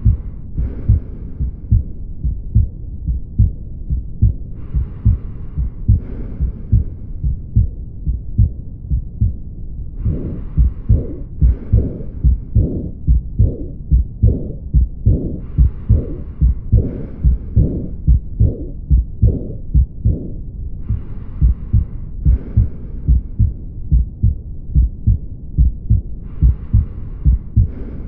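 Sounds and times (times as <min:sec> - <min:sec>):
heart murmur: 0:00.0 - 0:28.0
heartbeat through stethoscope: 0:00.0 - 0:28.0.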